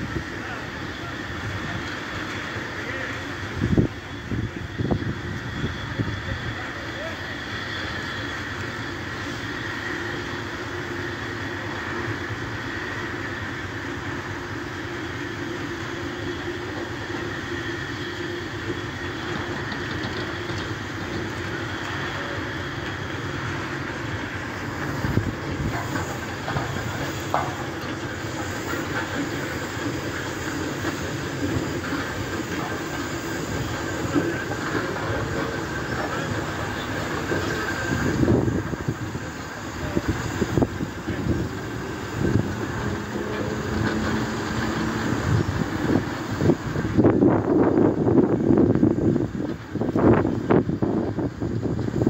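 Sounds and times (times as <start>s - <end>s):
hiss of steam: 0.0s - 52.0s.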